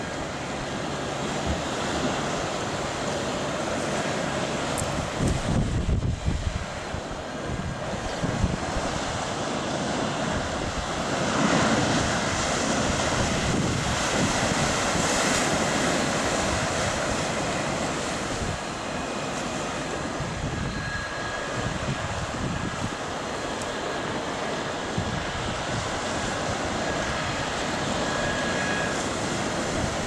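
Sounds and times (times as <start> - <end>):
surf breaking on beach: 0.0 - 30.0
wind rumbling on microphone: 0.0 - 30.0.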